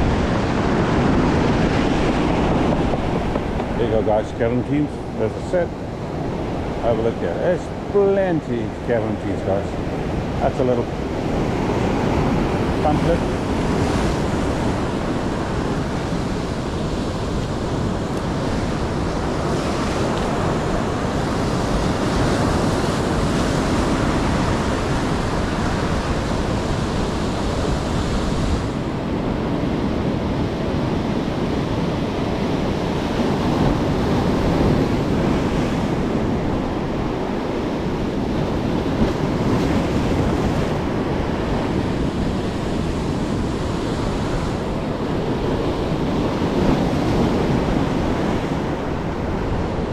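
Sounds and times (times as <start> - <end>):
ocean surf breaking on rocks: 0.0 - 49.9.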